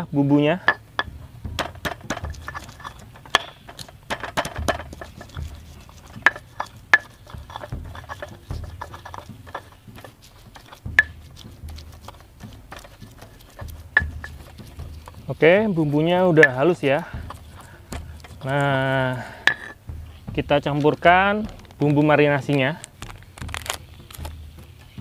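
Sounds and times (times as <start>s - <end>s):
spices ground by hand: 0.6s - 25.0s.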